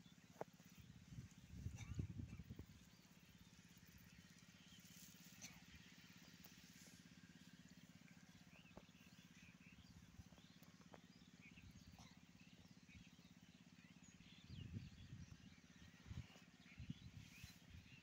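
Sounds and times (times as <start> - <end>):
faint bird chirps: 0.0 - 7.0, 7.7 - 18.0
steady low hum: 0.0 - 18.0.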